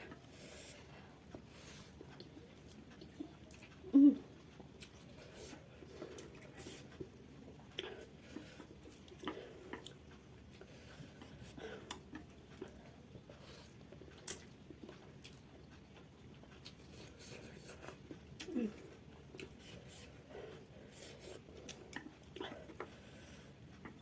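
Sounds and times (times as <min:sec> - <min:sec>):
person chewing noodles: 0:00.0 - 0:24.0.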